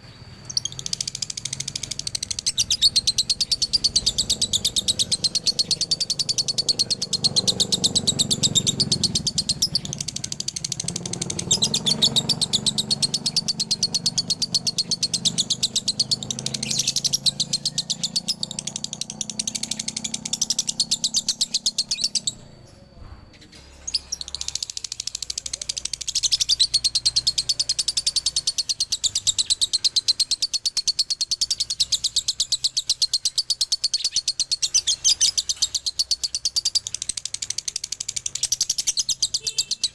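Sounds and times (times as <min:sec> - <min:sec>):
lovebird chattering chirps: 0:00.0 - 0:39.9.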